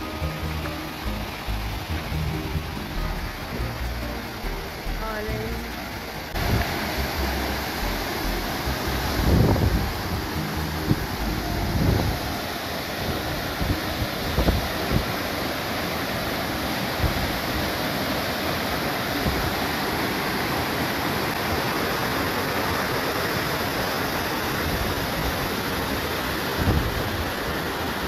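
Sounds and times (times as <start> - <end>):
waterfall rushing into pool: 0.0 - 28.0.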